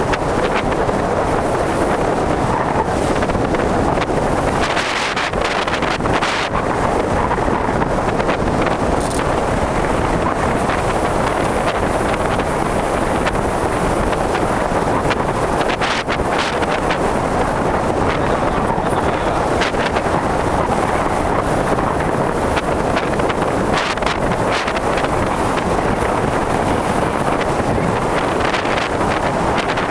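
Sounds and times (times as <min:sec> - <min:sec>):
strong wind on microphone: 0:00.0 - 0:29.9.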